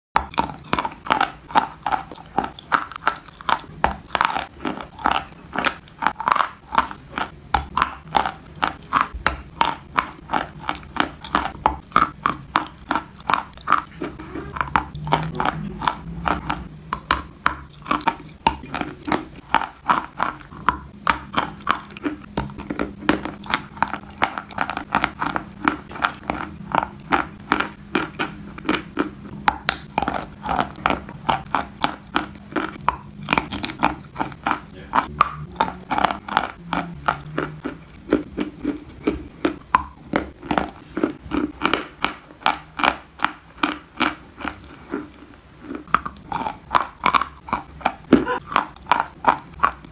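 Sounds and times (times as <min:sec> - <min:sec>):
chewing crunchy chalk: 0:00.2 - 0:49.9.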